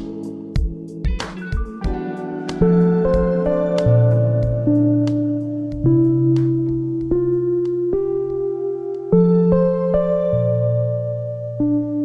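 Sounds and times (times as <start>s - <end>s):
soft ambient keyboard chords: 0.0s - 12.0s.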